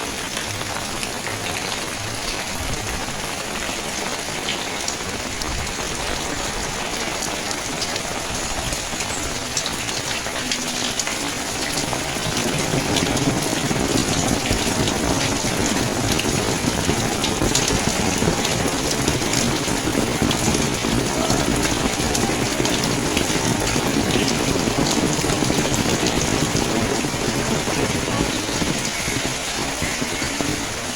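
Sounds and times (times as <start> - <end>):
rain falling: 0.0 - 30.9
water flowing: 0.0 - 30.9.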